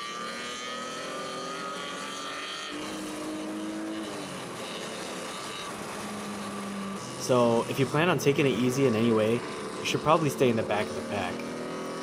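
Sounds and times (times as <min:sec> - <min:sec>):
car engine running: 0:00.0 - 0:12.0
road noise inside car: 0:00.0 - 0:12.0.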